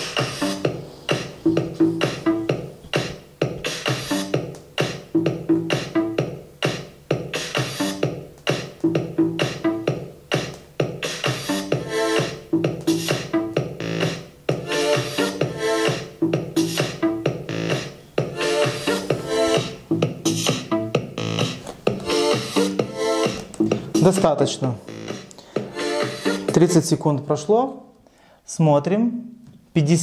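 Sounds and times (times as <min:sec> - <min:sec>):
muffled electronic dance music: 0:00.0 - 0:27.5.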